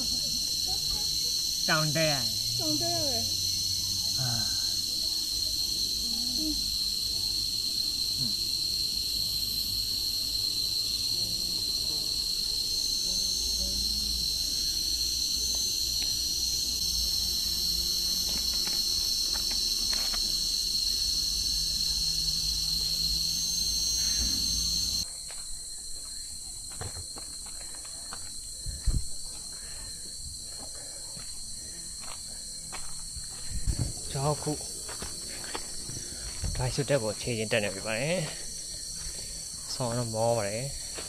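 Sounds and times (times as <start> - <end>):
shrill insect chorus: 0.0 - 41.0.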